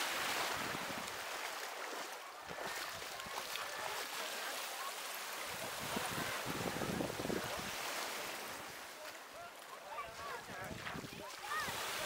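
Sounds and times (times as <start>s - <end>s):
small waves lapping at shore: 0.0s - 12.0s.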